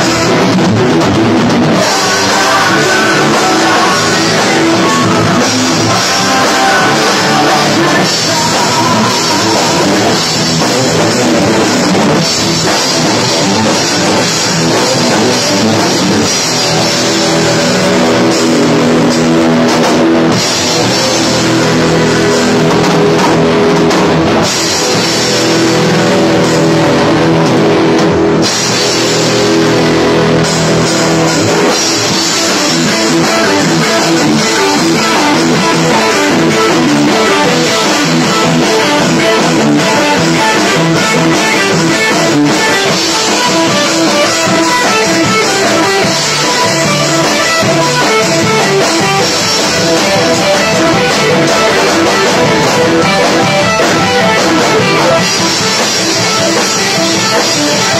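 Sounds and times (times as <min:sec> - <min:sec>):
rock band playing loudly: 0:00.0 - 0:57.9.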